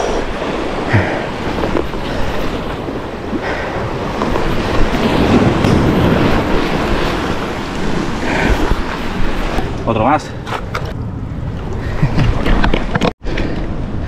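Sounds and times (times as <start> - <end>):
sea waves washing: 0.0 - 14.0
wind buffeting microphone: 0.0 - 14.0.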